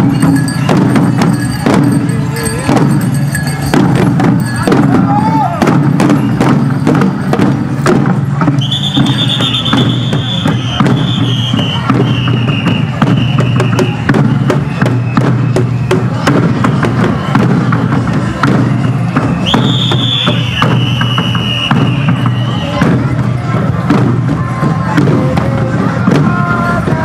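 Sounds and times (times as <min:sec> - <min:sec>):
drums beaten with sticks: 0:00.0 - 0:27.0.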